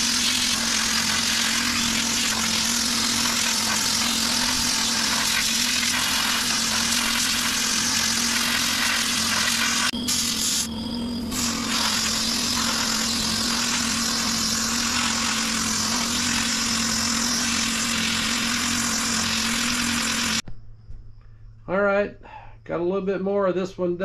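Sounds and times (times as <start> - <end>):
sandblaster hiss: 0.0 - 20.4
steady hum: 0.0 - 22.9.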